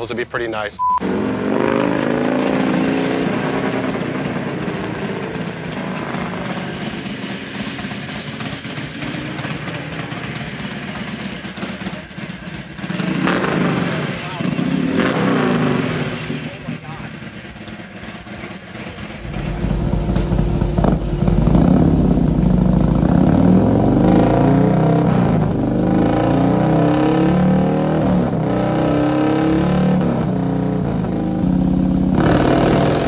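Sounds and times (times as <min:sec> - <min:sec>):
motorcycle engine revving: 0:01.0 - 0:33.0.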